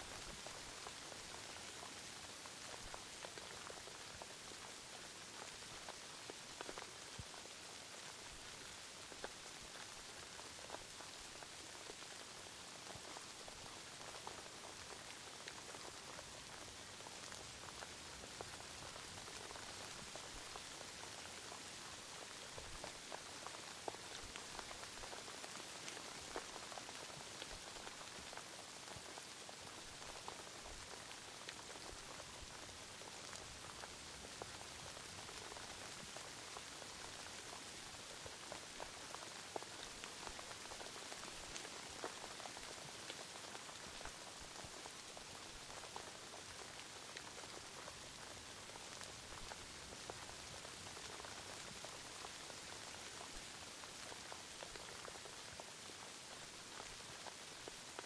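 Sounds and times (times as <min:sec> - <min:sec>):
steady rain hiss: 0:00.0 - 0:58.0
raindrops ticking: 0:00.1 - 0:58.0.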